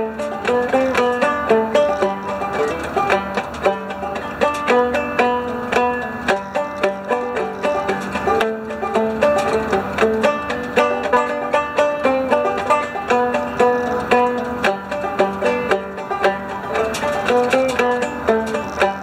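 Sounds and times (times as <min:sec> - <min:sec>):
banjo plucked notes: 0:00.0 - 0:19.0.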